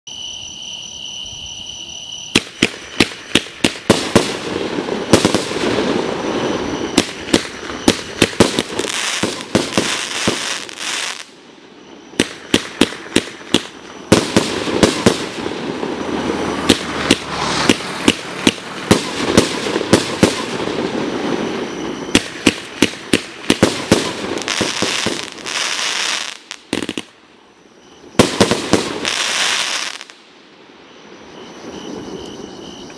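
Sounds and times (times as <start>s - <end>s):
crackle of bursting fireworks: 2.3s - 32.9s.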